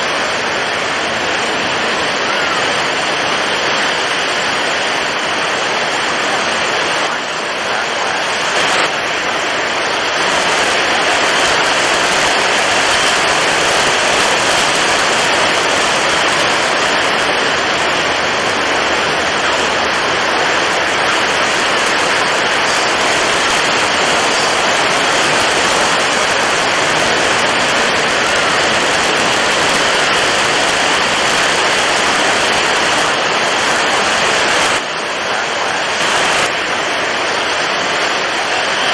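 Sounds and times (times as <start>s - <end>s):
strong wind: 0.0s - 38.9s
waves crashing: 0.0s - 38.9s.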